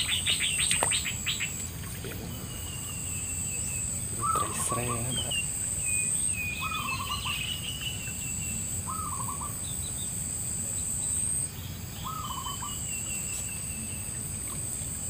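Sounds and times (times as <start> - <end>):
thin high bird chirping: 0.0 - 1.6, 2.3 - 10.2, 10.8 - 14.9
birds trilling: 0.0 - 15.0
insect drone: 0.0 - 15.0.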